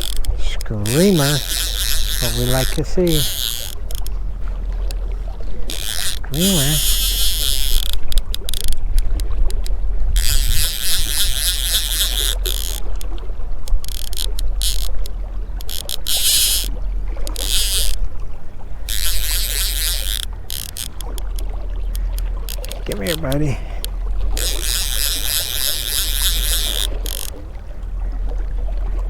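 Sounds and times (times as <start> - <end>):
fly reel drag screaming: 0.0 - 8.7, 10.1 - 13.1, 13.7 - 18.0, 18.7 - 27.5.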